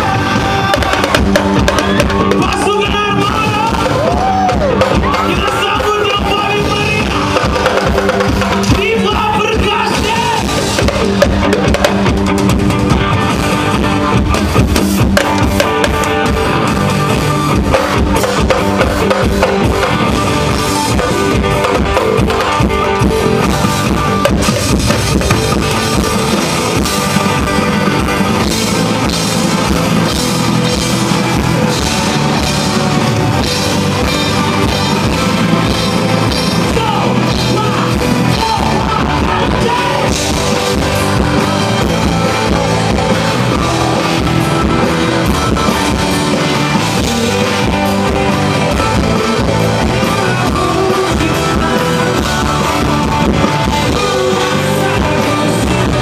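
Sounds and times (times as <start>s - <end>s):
drum kit: 0.0s - 56.0s
live rock band playing: 0.0s - 56.0s.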